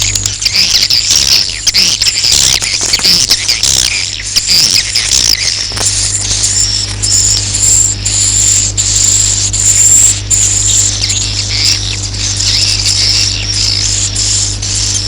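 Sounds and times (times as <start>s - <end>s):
steady low hum: 0.0s - 15.0s
swiftlets twittering: 0.0s - 15.0s.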